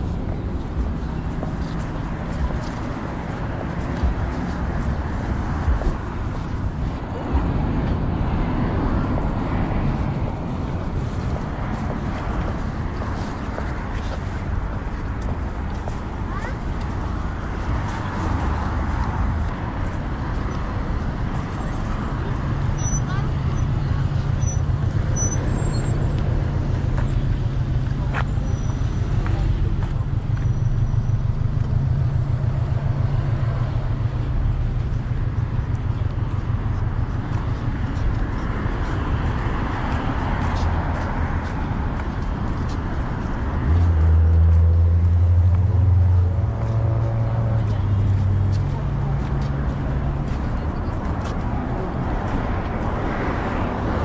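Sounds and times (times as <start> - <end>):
car engines running: 0.0 - 54.0
street traffic: 0.0 - 54.0.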